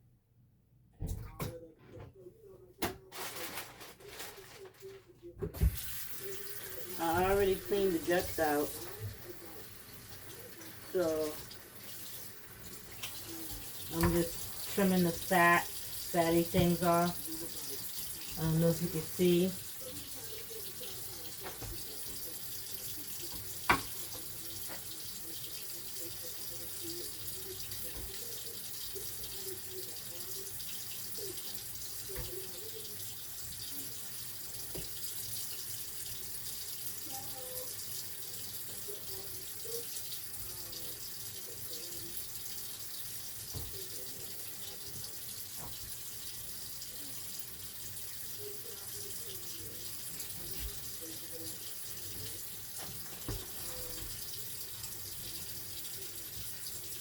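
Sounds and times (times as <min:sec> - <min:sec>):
tap water running into sink: 0:05.5 - 0:57.0.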